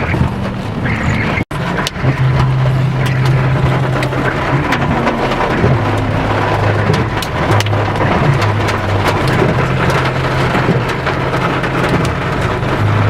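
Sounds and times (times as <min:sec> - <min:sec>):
car engine idling: 0:00.0 - 0:13.0
hail and rain on a car: 0:00.0 - 0:13.0.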